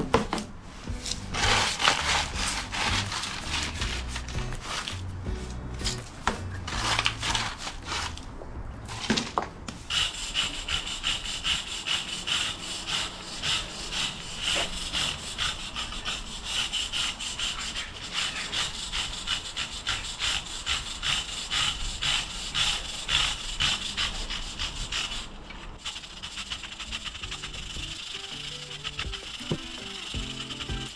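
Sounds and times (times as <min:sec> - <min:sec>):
wire brush scraping paving: 0:00.7 - 0:30.9.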